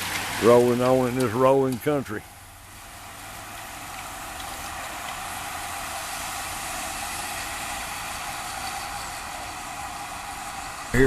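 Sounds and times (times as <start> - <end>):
tyres hissing on paved road: 0.0 - 11.0.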